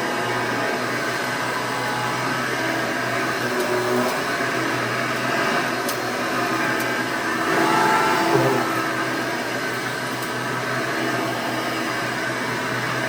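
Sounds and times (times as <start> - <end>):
vacuum cleaner motor hum: 0.0 - 13.0.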